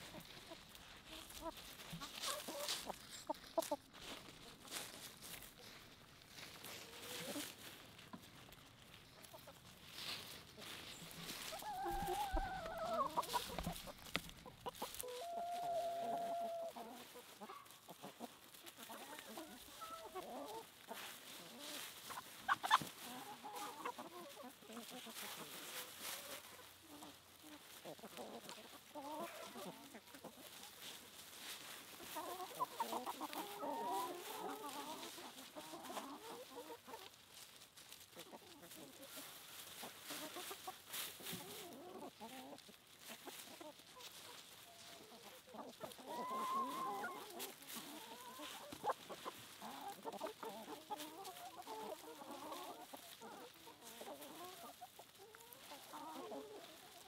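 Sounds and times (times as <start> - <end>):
chickens clucking and cackling: 0.0 - 57.0.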